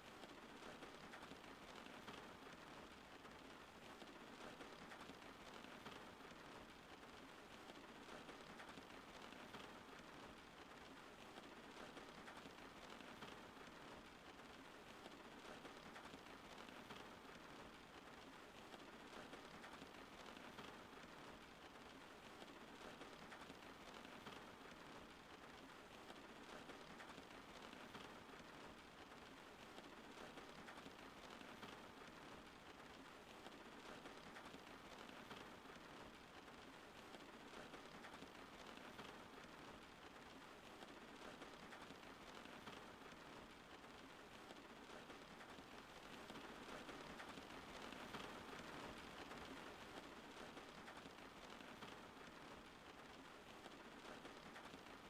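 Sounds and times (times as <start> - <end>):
faint rain patter: 0.0 - 55.0.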